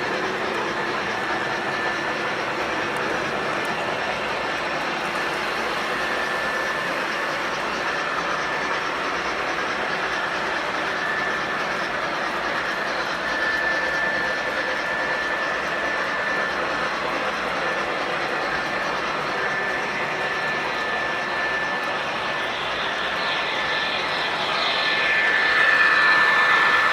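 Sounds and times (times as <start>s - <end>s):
faint high whine: 0.0s - 26.9s
model trains whirring and rattling: 0.0s - 26.9s.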